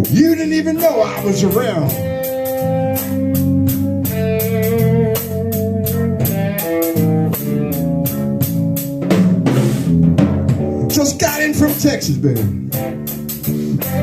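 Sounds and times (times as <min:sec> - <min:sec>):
blues band playing: 0:00.0 - 0:14.0.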